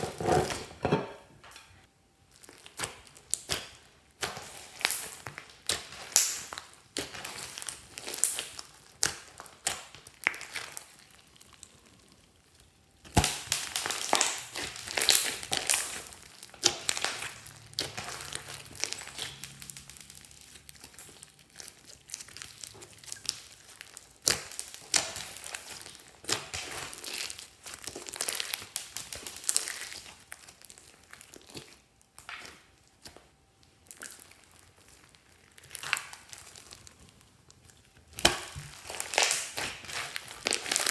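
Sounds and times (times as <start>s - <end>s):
hands squeezing sticky slime: 2.3s - 40.9s.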